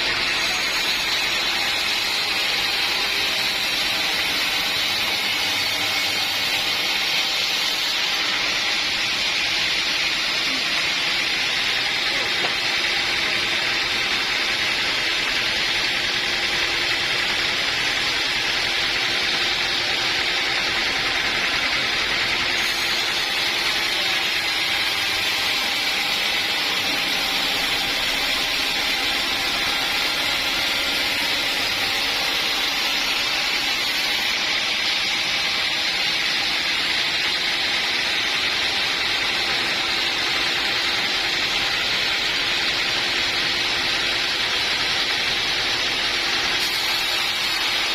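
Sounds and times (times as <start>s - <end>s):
saw cutting through wood: 0.0s - 47.9s.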